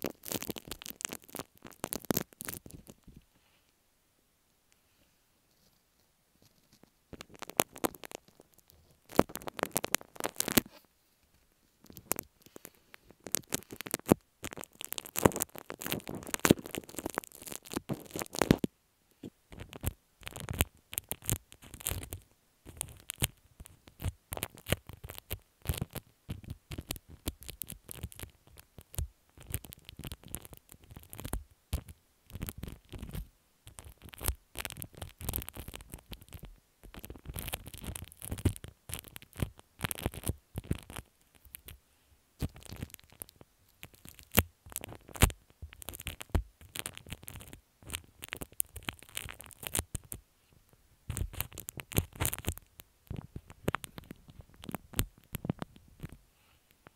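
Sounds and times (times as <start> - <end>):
slime squelching and crackling: 0.0 - 3.2, 6.4 - 10.8, 11.8 - 18.7, 19.5 - 41.8, 42.4 - 56.2.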